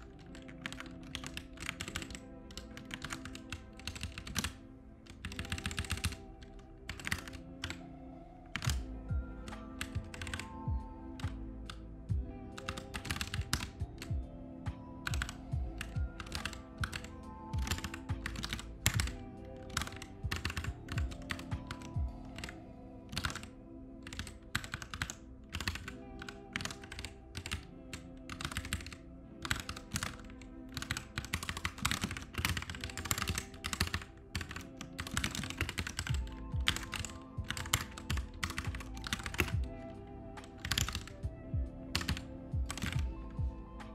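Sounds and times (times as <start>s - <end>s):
background music: 0.0s - 43.9s
keyboard typing: 0.0s - 43.9s.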